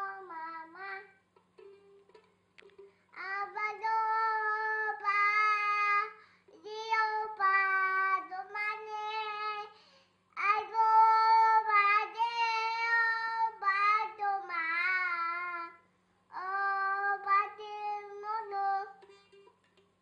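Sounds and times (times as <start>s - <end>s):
toddler singing in a high voice: 0.0s - 1.2s, 3.2s - 9.7s, 10.4s - 19.0s.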